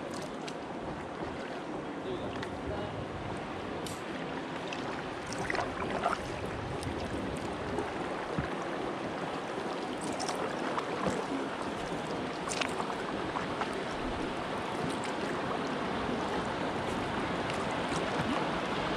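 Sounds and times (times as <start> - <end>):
moving water: 0.0 - 18.9
paddle blades splashing: 0.0 - 18.9.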